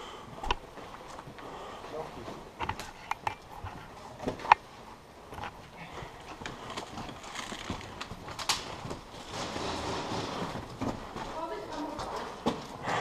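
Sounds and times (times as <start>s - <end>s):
rustling: 0.7s - 13.0s.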